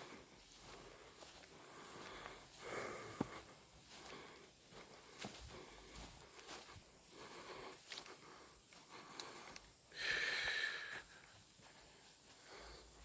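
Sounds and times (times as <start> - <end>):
footsteps outdoors: 0.0 - 13.0.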